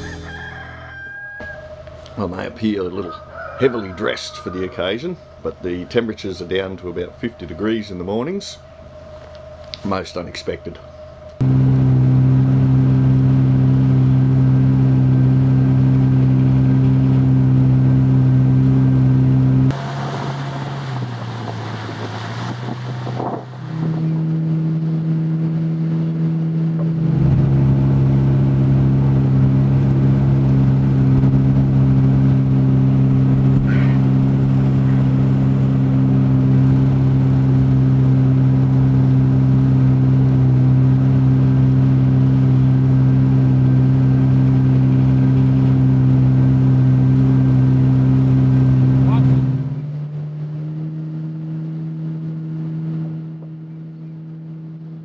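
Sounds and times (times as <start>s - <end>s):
outboard motor droning: 0.0s - 55.0s.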